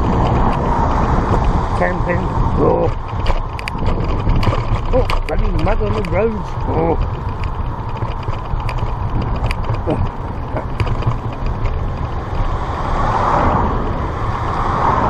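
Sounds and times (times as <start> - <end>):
car road noise: 0.0 - 15.0
wind rumble on microphone: 0.0 - 15.0.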